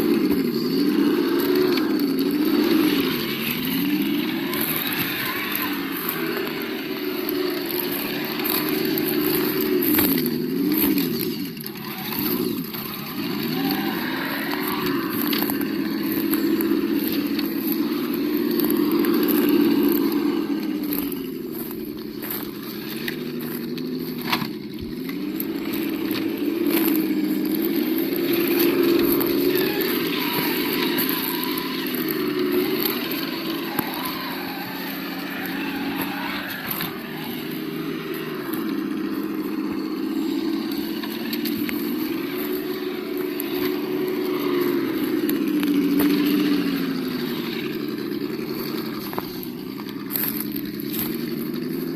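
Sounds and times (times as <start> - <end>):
simulated engine sound: 0.0 - 51.9.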